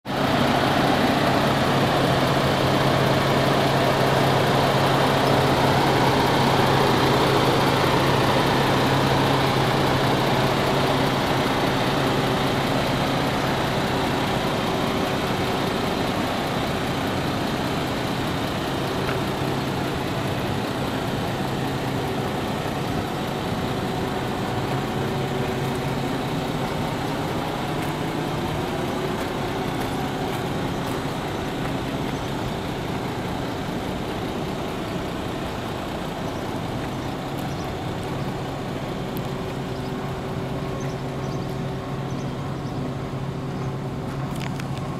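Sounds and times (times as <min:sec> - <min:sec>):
diesel engine idling: 0:00.1 - 0:44.9.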